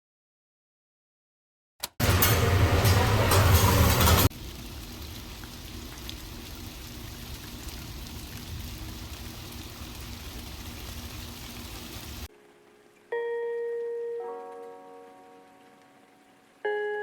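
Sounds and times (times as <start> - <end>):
steady rain: 2.0 - 13.2, 13.8 - 17.0.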